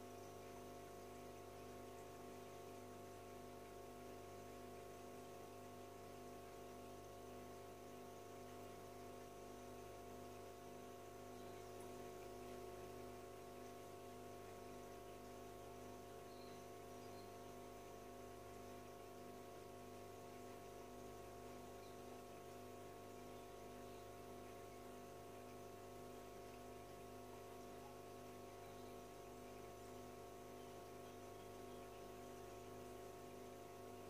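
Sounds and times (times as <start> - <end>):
aquarium filter hum: 0.0 - 34.0.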